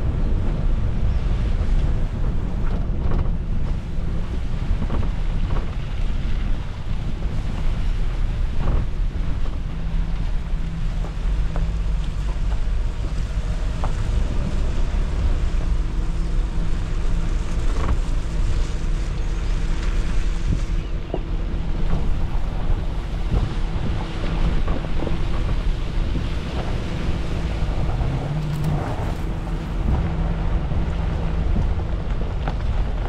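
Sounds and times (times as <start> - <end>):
vehicle engine rumble: 0.0 - 33.0
wind on microphone: 0.0 - 33.0.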